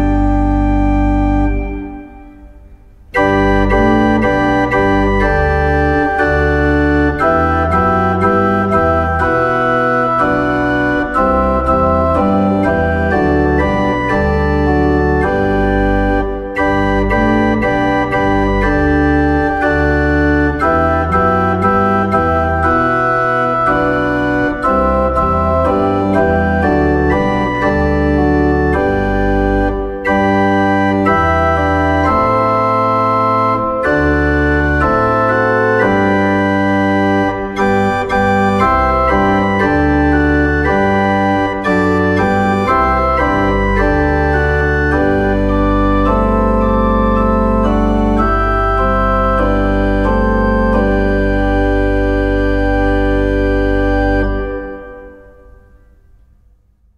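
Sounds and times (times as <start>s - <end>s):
moving bass line: 0.0s - 2.2s, 3.2s - 54.9s
organ-like keyboard chords: 0.0s - 56.2s.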